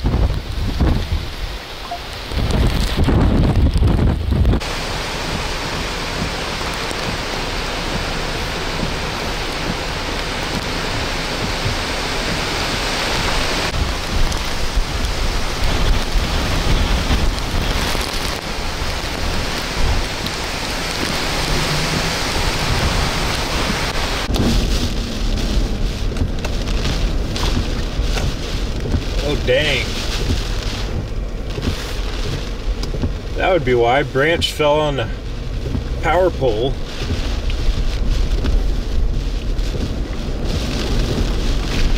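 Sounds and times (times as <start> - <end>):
heavy driving rain: 0.0 - 41.9
wind gusts on microphone: 0.0 - 41.9.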